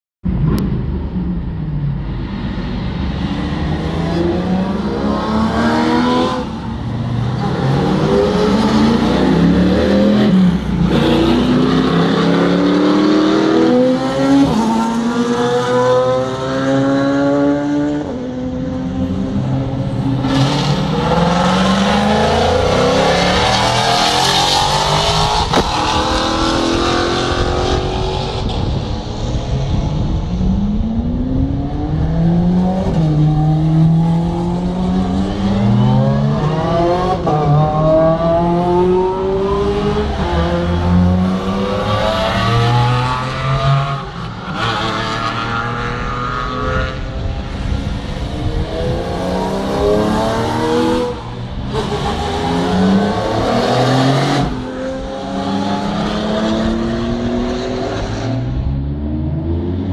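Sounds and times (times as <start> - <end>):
race car engines revving: 0.3 - 59.9.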